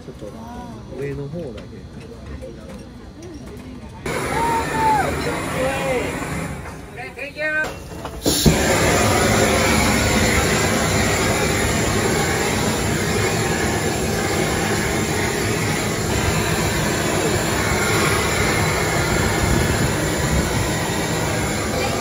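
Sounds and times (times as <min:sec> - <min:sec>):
blowtorch hissing: 0:04.0 - 0:22.0.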